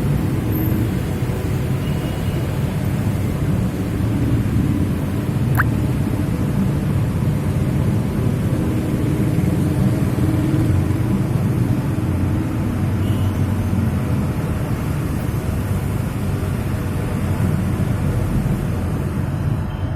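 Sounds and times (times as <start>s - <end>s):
idling car and motorcycle engines: 0.0s - 19.3s.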